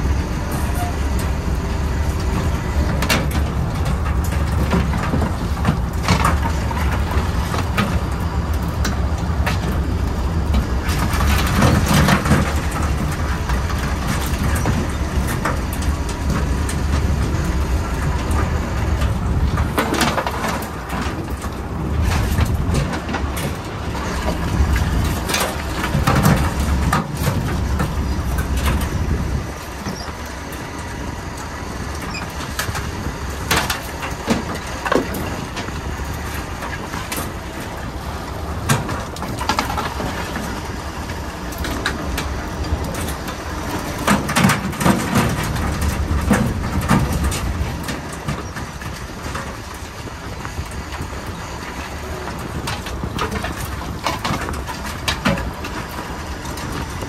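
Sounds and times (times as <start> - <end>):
wire pots clanking and rattling: 0.0 - 57.0.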